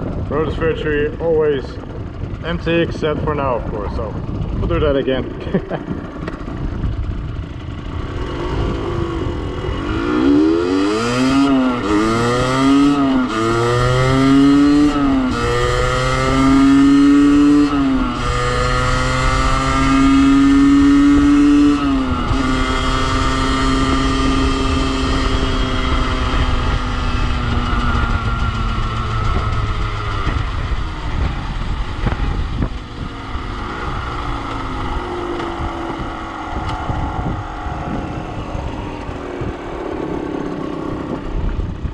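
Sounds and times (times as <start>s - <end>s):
two-stroke engine accelerating: 0.0s - 41.9s
wind rushing over microphone: 0.0s - 41.9s.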